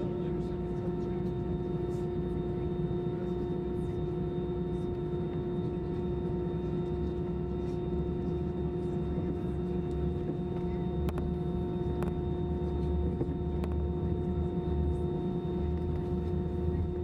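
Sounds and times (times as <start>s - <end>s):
airliner cabin engine hum: 0.0s - 17.0s.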